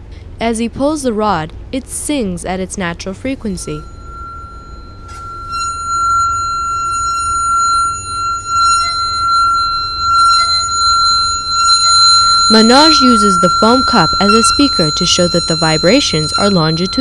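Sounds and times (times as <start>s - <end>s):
metal rod ringing high tone: 3.4s - 17.0s.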